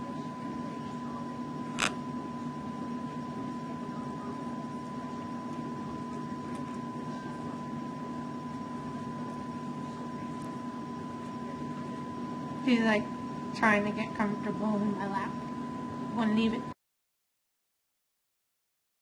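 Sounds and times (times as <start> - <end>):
constant high-pitched tone: 0.0 - 16.8
machine hum: 0.0 - 16.8.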